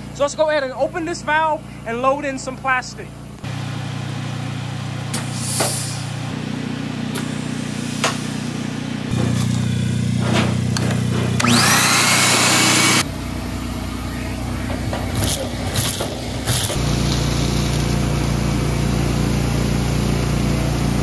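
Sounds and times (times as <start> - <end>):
low machine hum: 0.0 - 21.0
shop vacuum motor: 3.4 - 21.0.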